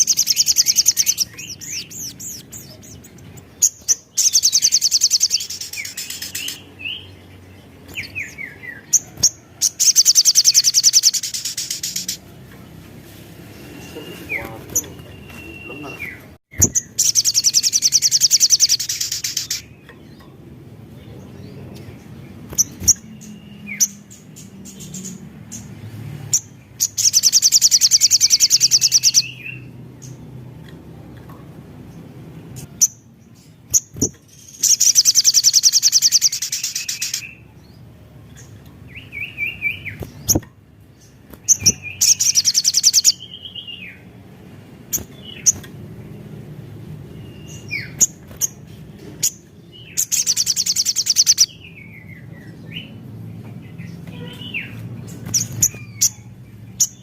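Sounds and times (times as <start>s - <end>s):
bird chirps and clicks: 0.0s - 12.7s, 14.4s - 20.5s, 21.6s - 32.0s, 32.6s - 37.4s, 38.3s - 43.8s, 44.8s - 45.8s, 47.4s - 52.8s, 53.4s - 57.0s
bird singing high rapid trills: 0.0s - 30.6s, 31.7s - 57.0s.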